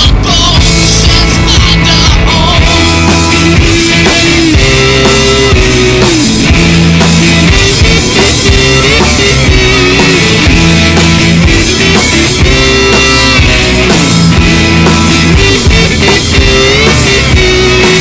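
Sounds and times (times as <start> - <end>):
music with steady beat: 0.0 - 18.0.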